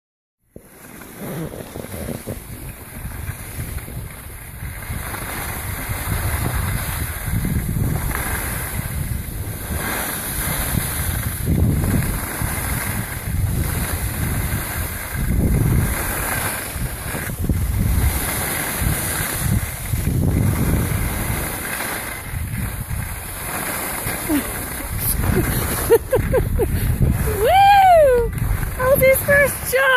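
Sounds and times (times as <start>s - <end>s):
skis sliding on snow: 0.5s - 29.9s
wind buffeting microphone: 1.8s - 29.9s.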